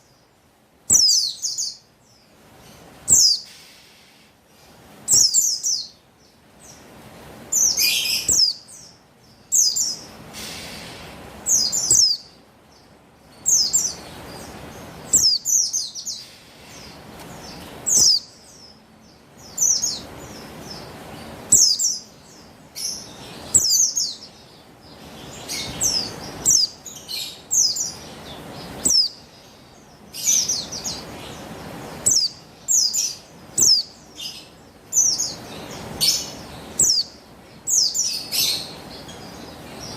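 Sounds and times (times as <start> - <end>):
faint hiss: 0.0 - 39.9
bird giving high chirping calls: 0.9 - 1.9, 3.0 - 4.3, 5.1 - 6.0, 7.5 - 12.4, 13.3 - 39.9.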